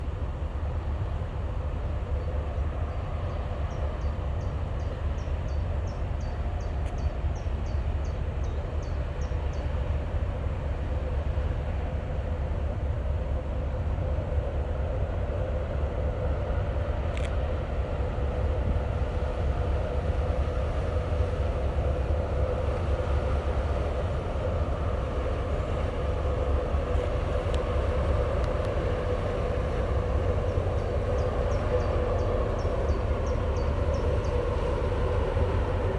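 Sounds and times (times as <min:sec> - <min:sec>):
boat engine rumbling: 0:00.0 - 0:35.9.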